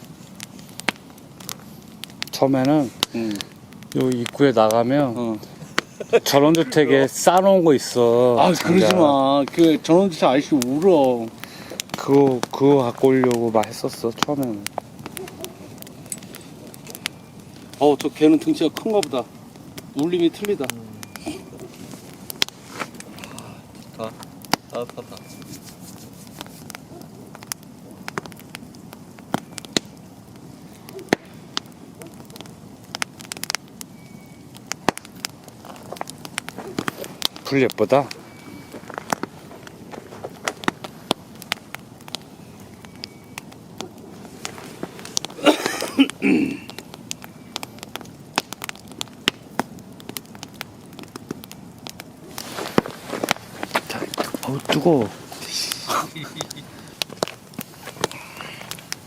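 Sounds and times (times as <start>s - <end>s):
burning logs popping: 0.0s - 59.0s
campfire crackling: 0.0s - 59.0s
flames hissing: 0.0s - 59.0s.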